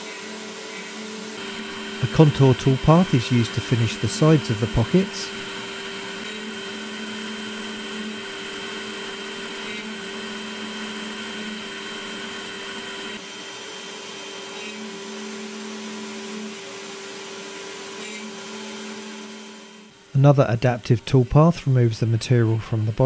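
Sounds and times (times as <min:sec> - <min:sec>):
cnc spindle whine: 0:00.0 - 0:23.0.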